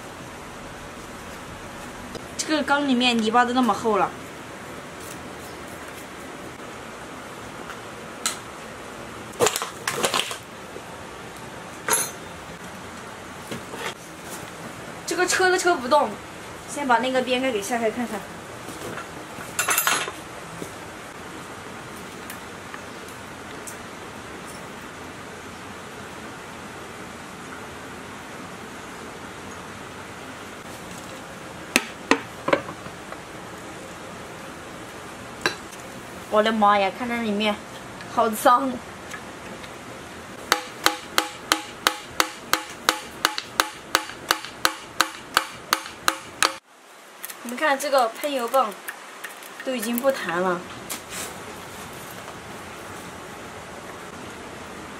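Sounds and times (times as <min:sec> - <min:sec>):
steady low hiss: 0:00.0 - 0:54.9.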